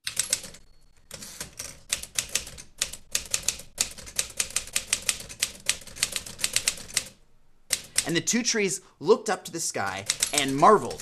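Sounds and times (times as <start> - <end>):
manual typewriter clacking: 0.0 - 8.2, 9.8 - 11.0.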